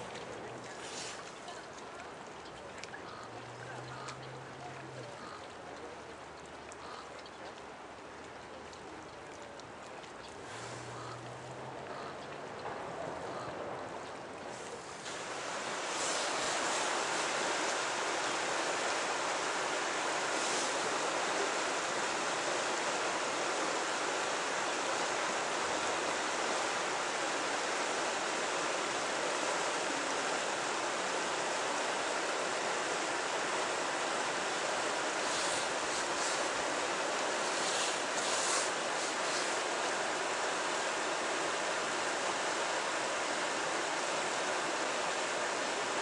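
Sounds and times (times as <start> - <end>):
river water rushing: 0.0 - 7.0, 9.6 - 46.0.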